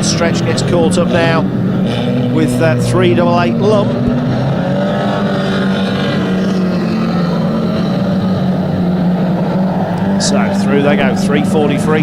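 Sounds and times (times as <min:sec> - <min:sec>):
racing car engines droning: 0:00.0 - 0:12.0.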